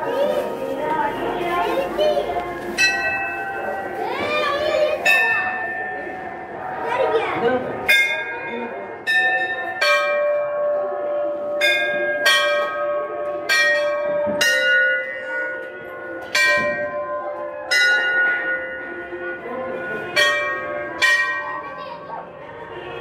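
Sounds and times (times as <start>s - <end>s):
temple bell ringing: 0.0s - 23.0s.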